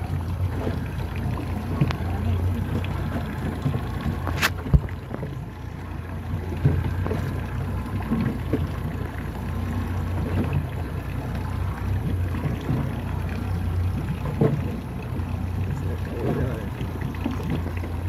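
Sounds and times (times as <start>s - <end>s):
water slapping against boat hull: 0.0s - 18.0s.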